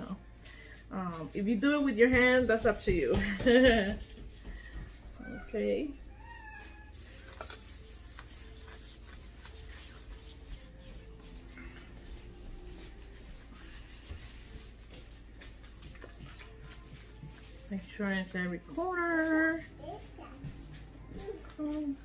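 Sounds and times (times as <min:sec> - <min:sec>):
gloved hands rubbing meat: 0:00.0 - 0:22.0.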